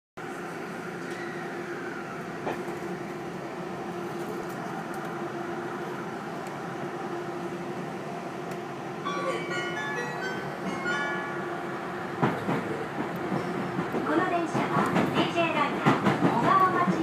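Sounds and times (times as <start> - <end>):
electric train running noise: 0.2 - 17.0.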